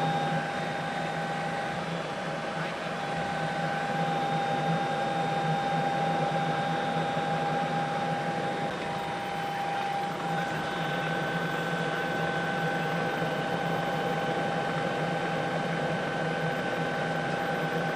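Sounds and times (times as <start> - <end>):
constant whining tones: 0.0 - 17.9
helicopter engine and rotor hum: 0.0 - 17.9.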